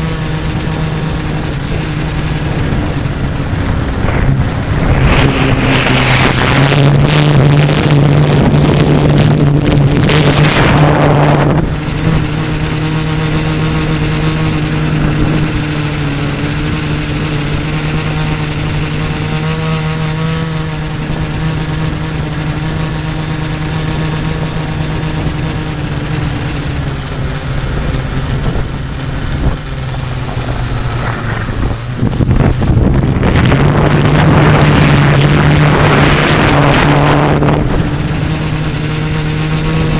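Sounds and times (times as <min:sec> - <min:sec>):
drone motors humming: 0:00.0 - 0:39.9
wind noise on microphone: 0:00.0 - 0:39.9.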